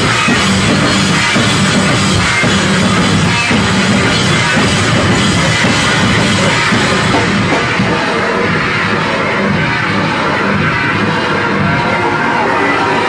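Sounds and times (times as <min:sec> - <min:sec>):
distorted bass guitar: 0:00.0 - 0:13.0
fast drum kit playing: 0:00.0 - 0:13.0.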